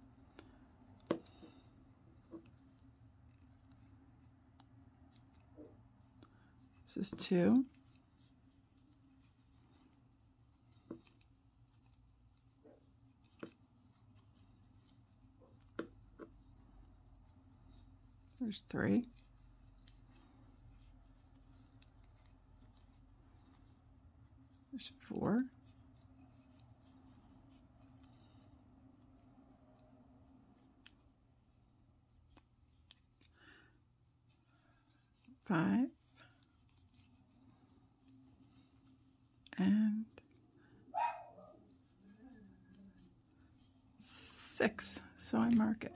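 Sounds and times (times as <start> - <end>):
low room hum: 0.0 - 45.9.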